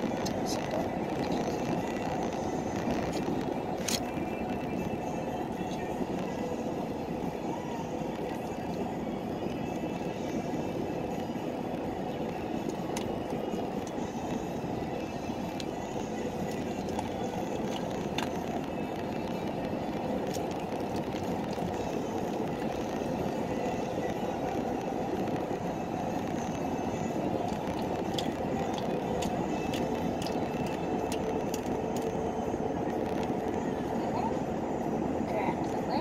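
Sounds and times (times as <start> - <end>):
road noise inside vehicle: 0.0 - 36.0.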